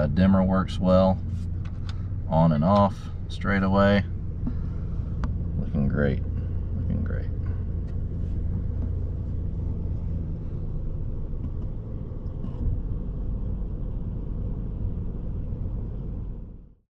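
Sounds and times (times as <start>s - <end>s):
truck engine idling: 0.0s - 16.7s.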